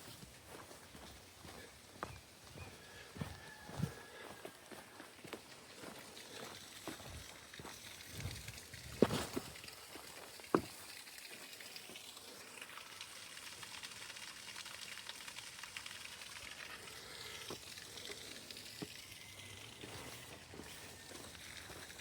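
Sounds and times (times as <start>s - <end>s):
rain pattering: 4.1s - 22.0s.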